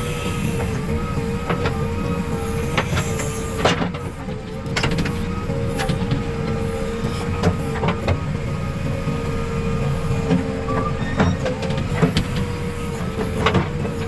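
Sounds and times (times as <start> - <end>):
diesel engine running: 0.0 - 14.0
engine whine: 0.0 - 14.0.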